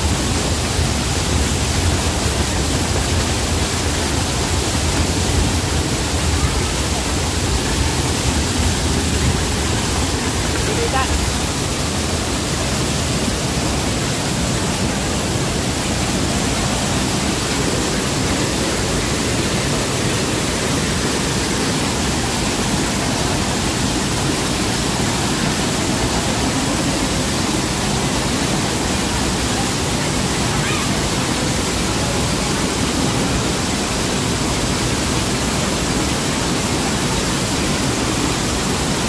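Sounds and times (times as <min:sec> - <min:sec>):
waterfall pouring: 0:00.0 - 0:39.0.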